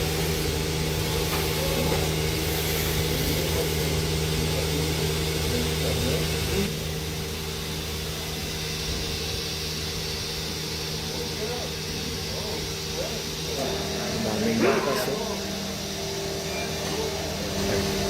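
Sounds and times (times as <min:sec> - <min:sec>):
milking machinery humming: 0:00.0 - 0:18.0.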